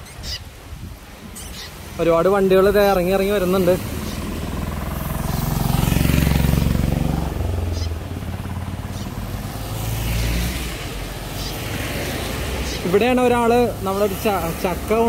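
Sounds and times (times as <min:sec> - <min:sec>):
vehicles passing on wet road: 0:00.3 - 0:15.0.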